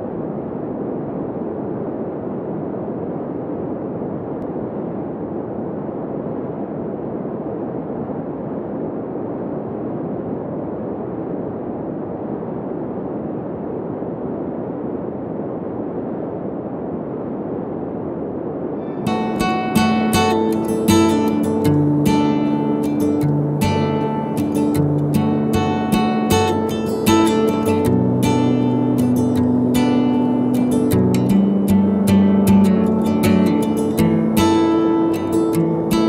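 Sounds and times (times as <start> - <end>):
steady rushing noise: 0.0 - 36.0.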